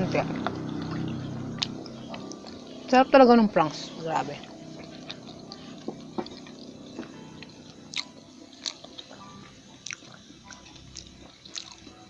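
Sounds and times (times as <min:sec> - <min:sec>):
person chewing food: 0:00.4 - 0:02.9, 0:04.4 - 0:12.0.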